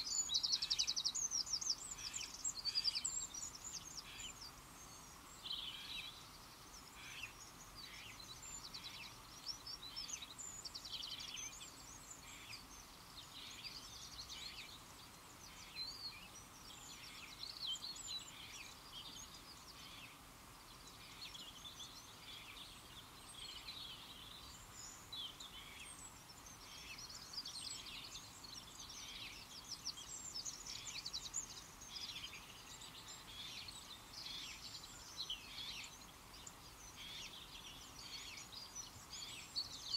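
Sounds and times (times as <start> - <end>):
faint steady background noise: 0.0 - 39.9
small birds chirping and singing: 0.0 - 39.9.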